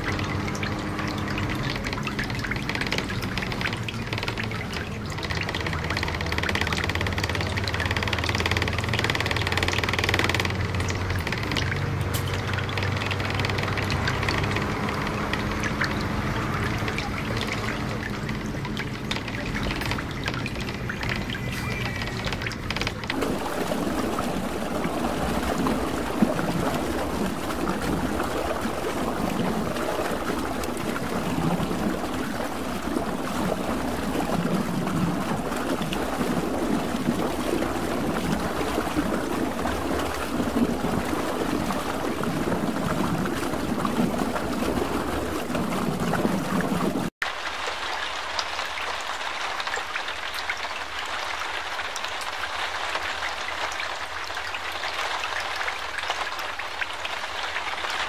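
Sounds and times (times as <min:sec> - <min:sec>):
floodwater rushing: 0:00.0 - 0:58.0.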